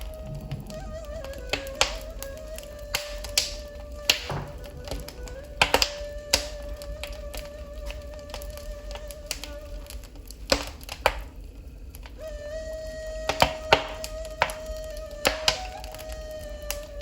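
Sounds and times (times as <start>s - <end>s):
fire popping: 0.0s - 17.0s
steady high whistling tone: 0.0s - 17.0s
wood fire crackling: 0.0s - 17.0s.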